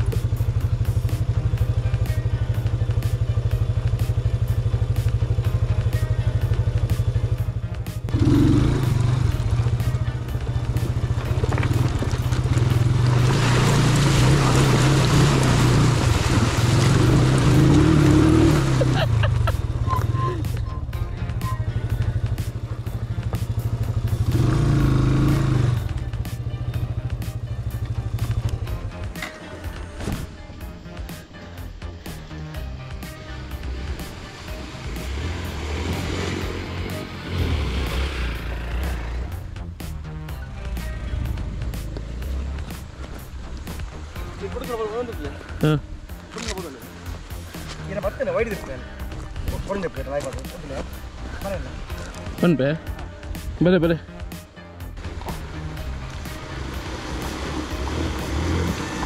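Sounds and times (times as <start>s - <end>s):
motorcycle engine running: 0.0s - 30.4s, 31.0s - 44.3s, 48.5s - 59.0s.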